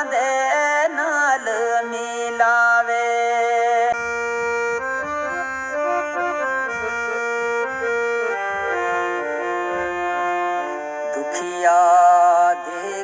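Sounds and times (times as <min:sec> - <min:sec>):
reed instrument melody: 0:01.4 - 0:13.0.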